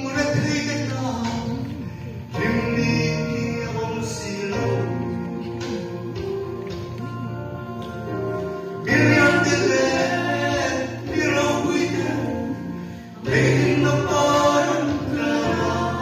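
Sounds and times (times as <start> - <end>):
accompaniment holding low notes: 0.0 - 16.0
person singing gospel song: 0.0 - 16.0.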